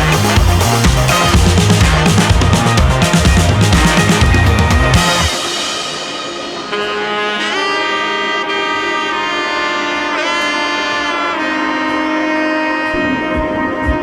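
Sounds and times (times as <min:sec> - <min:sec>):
low held drone note: 0:00.0 - 0:14.0
reedy wind instrument: 0:00.0 - 0:14.0.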